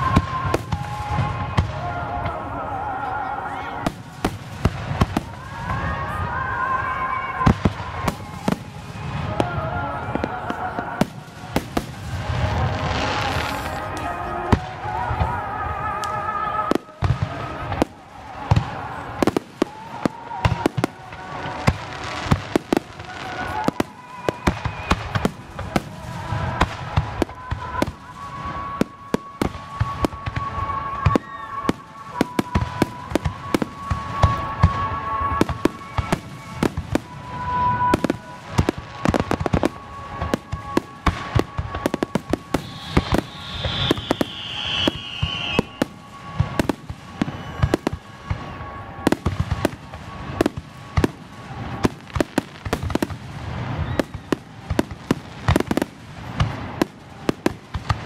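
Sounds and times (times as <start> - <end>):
fireworks booming and crackling: 0.0 - 2.9, 3.5 - 58.0.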